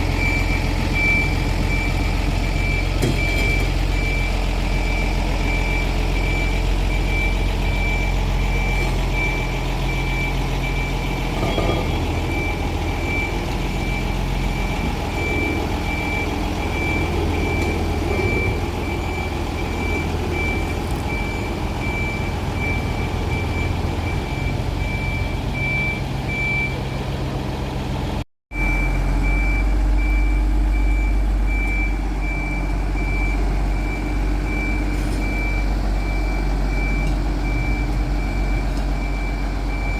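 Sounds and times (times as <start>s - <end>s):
vehicle engine rumble: 0.0s - 39.9s
reversing warning beeper: 0.1s - 27.1s, 28.5s - 39.9s.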